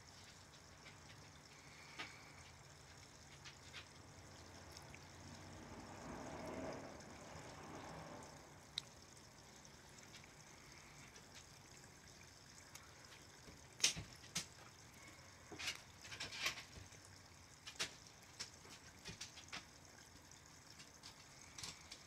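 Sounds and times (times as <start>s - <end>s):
waterfall trickling over stones: 0.0s - 22.0s.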